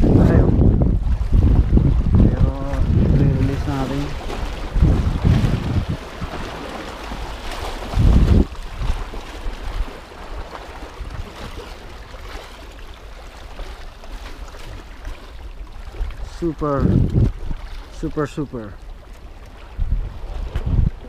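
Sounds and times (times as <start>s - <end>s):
wind on the microphone: 0.0s - 12.5s, 13.6s - 18.8s, 19.4s - 21.0s
small waves washing against rocks: 0.0s - 21.0s.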